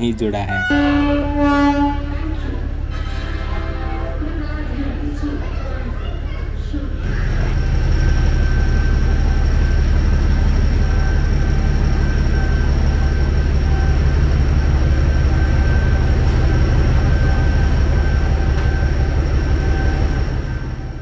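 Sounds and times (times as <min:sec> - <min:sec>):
heavy engine idling: 0:00.0 - 0:21.0.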